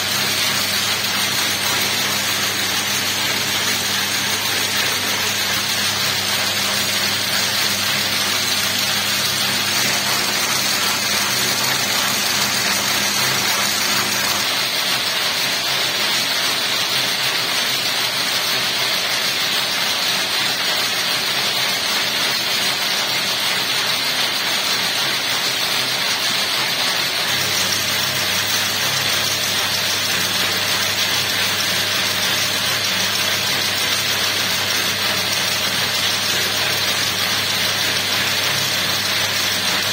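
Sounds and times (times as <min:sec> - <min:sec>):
braiding machine whirring: 0:00.0 - 0:39.9.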